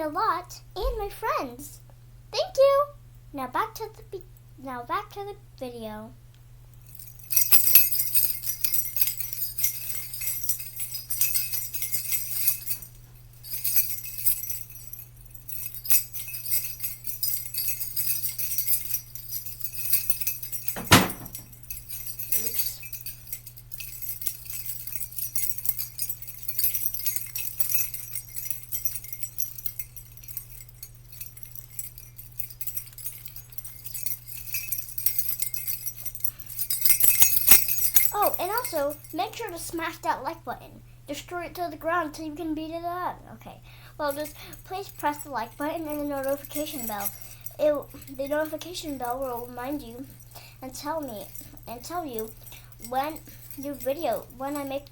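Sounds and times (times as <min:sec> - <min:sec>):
steady low hum: 0:00.0 - 0:54.9
jingle bells shaking: 0:06.8 - 0:39.9, 0:44.0 - 0:54.9.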